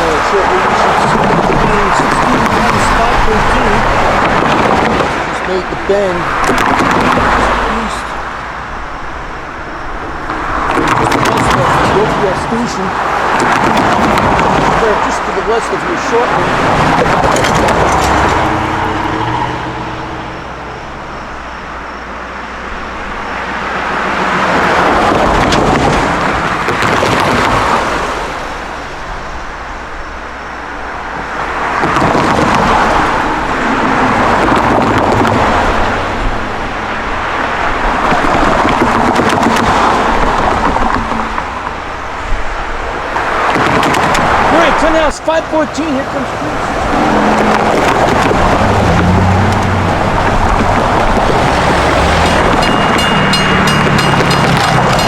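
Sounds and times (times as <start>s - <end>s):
cars passing: 0.0s - 55.0s
engine hum: 0.0s - 55.0s.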